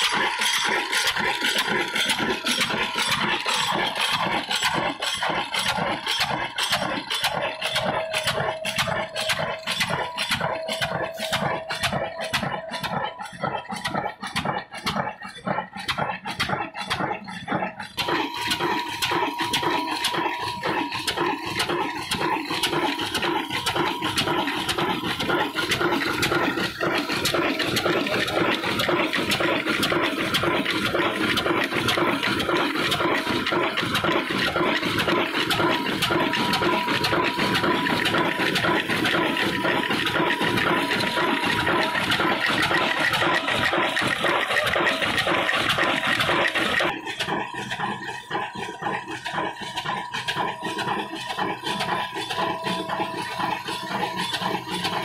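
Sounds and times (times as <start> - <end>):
stationary diesel engine running: 0.0 - 55.0.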